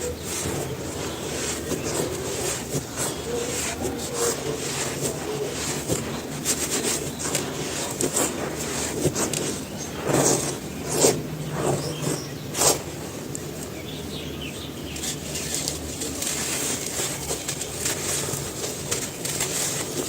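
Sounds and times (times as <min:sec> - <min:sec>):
cement crunching and scraping: 0:00.0 - 0:20.0.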